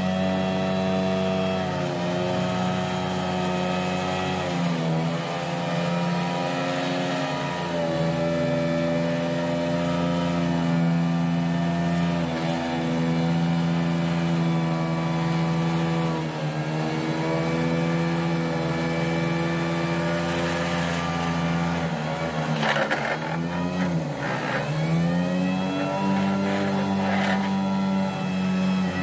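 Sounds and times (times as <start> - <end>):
piling machinery droning: 0.0 - 29.0.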